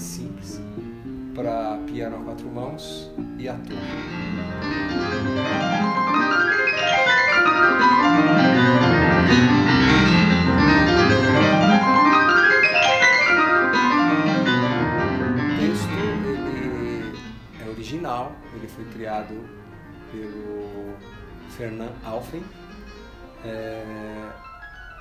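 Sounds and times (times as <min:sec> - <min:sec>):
digital piano played four hands: 0:00.0 - 0:25.0.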